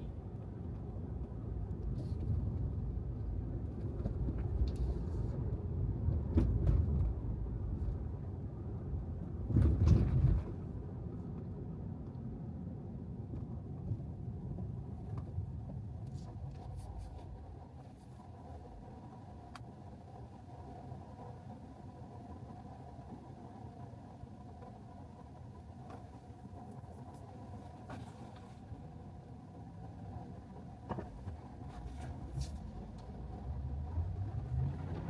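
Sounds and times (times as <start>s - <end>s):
road and tyre rumble: 0.0s - 35.0s.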